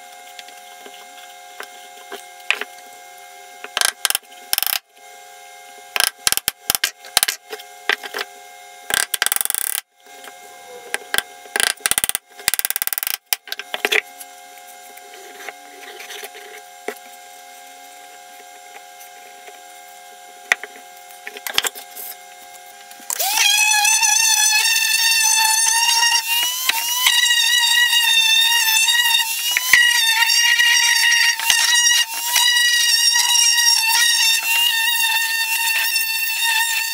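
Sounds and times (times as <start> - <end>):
orbital sander motor whine: 0.2 - 36.9.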